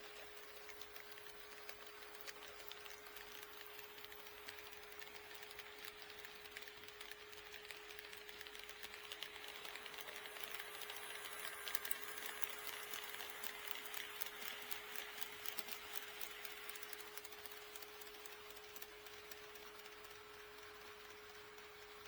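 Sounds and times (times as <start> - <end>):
model train wheels clicking: 0.0 - 22.0.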